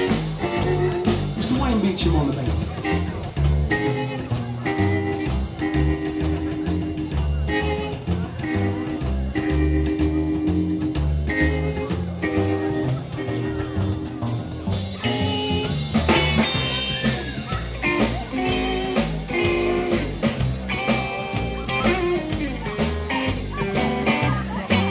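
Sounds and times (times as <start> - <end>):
drum kit: 0.0 - 24.9
guitar: 0.0 - 24.9
plucked double bass: 0.0 - 24.9.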